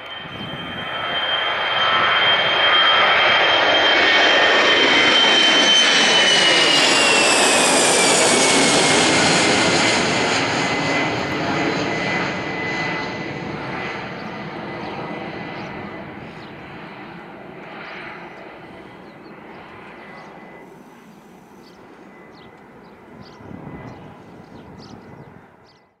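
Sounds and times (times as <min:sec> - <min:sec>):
jet engines roaring at takeoff: 0:00.0 - 0:26.0.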